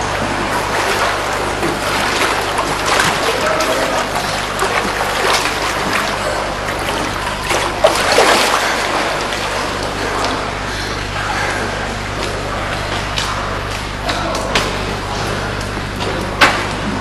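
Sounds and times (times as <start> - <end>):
pool water splashing: 0.0 - 17.0
steady low hum: 0.0 - 17.0.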